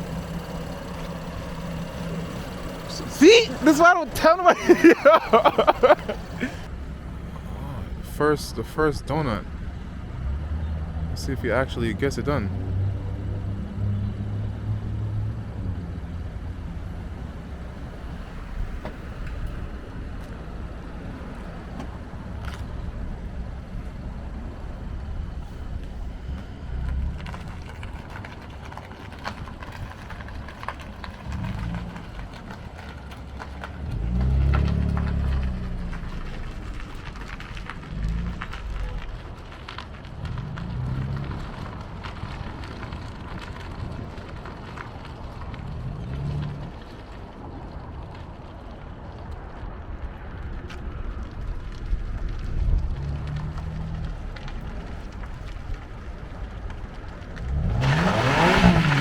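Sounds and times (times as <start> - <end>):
car engine rumble: 0.0 - 59.0.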